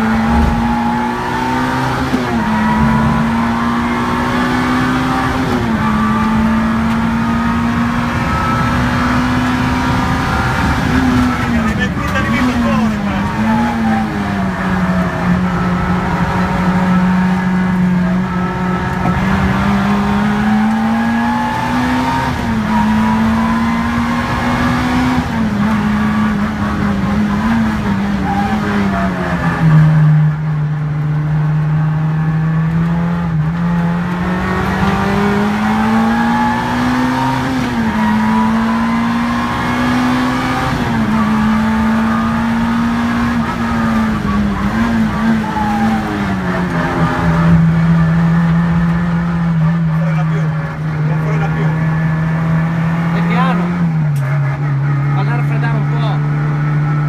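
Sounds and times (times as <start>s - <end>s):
car engine revving in cabin: 0.0s - 57.0s.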